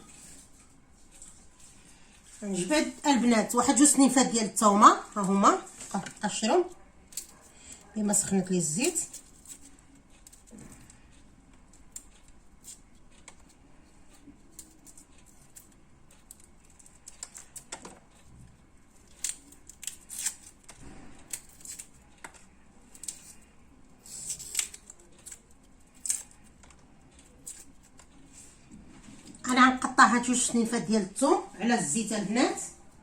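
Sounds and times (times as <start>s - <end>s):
garlic skin crackling: 0.0s - 28.6s.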